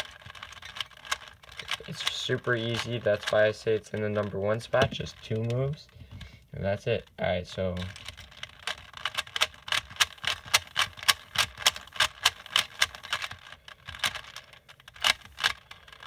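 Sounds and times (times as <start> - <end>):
puzzle cube clicking: 0.0 - 6.3, 7.0 - 16.0.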